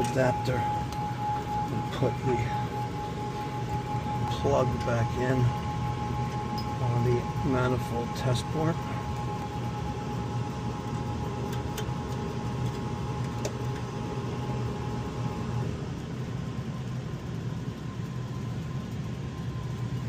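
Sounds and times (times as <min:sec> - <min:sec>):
faint whine: 0:00.0 - 0:20.0
furnace blower humming: 0:00.0 - 0:20.0.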